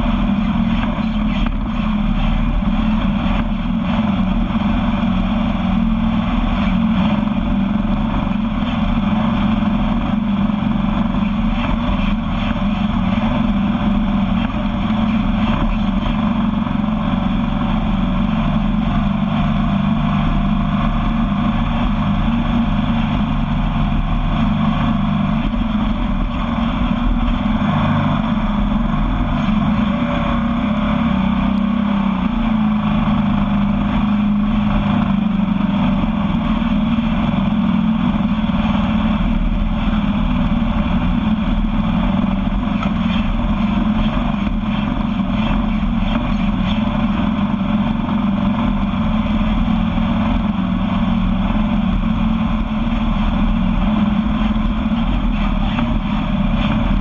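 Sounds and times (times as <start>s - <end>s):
engine running: 0.0s - 57.0s
wind: 0.0s - 57.0s.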